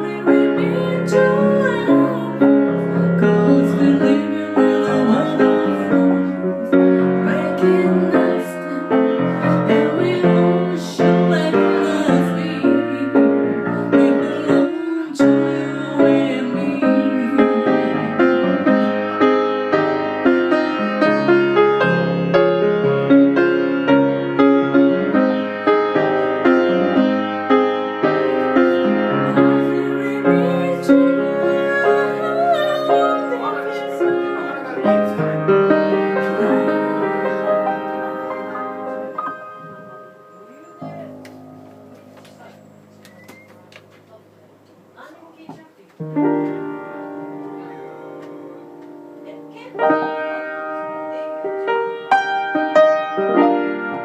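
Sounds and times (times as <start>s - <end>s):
piano playing chords and melody: 0.0s - 45.0s, 46.0s - 54.0s.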